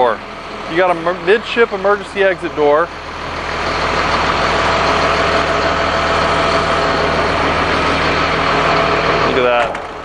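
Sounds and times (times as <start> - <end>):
diesel bus engine idling: 0.0 - 10.0.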